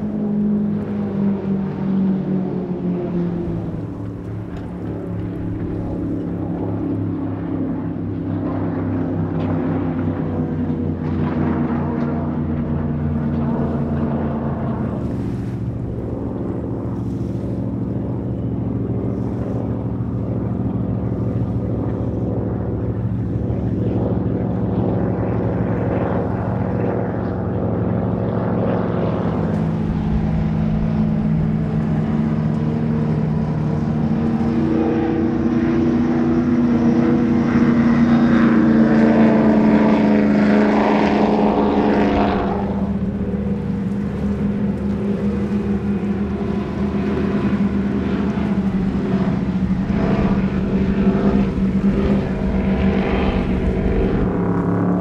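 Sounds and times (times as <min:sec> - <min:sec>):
powerboat engines running: 0:00.0 - 0:55.0.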